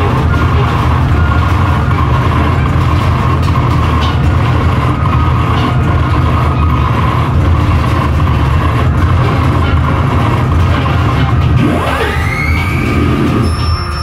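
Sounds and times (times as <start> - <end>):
harsh noise music: 0.0 - 14.0.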